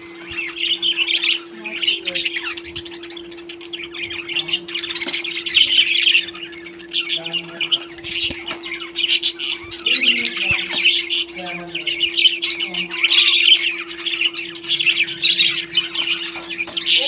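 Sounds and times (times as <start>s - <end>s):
parrot squawks: 0.0s - 17.0s
parrots chirping and chattering: 0.0s - 17.0s
steady low hum: 0.0s - 17.0s.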